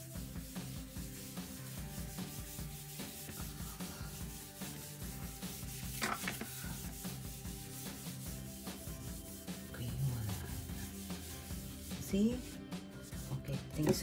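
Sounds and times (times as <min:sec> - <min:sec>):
cloth rubbing wooden tabletop: 0:00.0 - 0:14.0
faint background music: 0:00.0 - 0:14.0.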